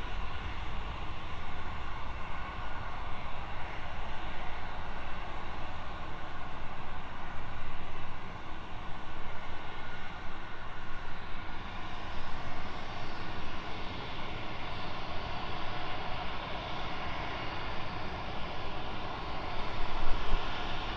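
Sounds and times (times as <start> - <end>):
jet engines rumbling: 0.0 - 20.9.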